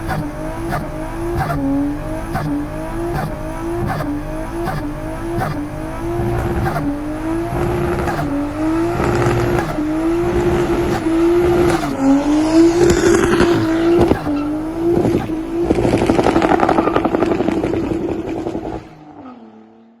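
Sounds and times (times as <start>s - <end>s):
engine revving at high revs: 0.0s - 20.0s.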